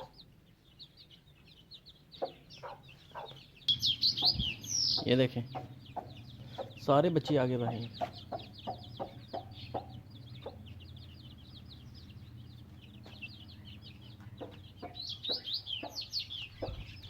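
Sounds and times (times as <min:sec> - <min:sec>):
hen clucking: 0:00.0 - 0:00.3, 0:02.1 - 0:17.0
chicks peeping: 0:00.0 - 0:17.0.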